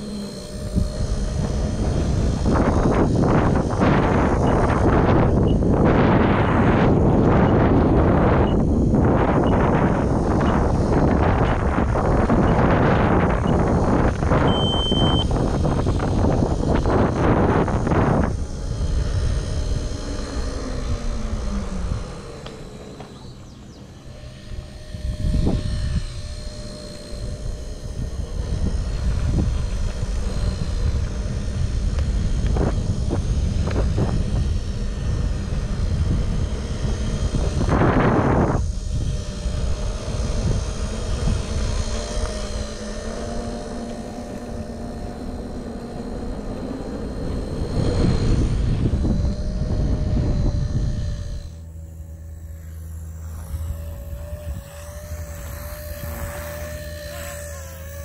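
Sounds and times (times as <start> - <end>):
low rumble: 0.0 - 58.0
toy helicopter rotor whine: 0.0 - 58.0.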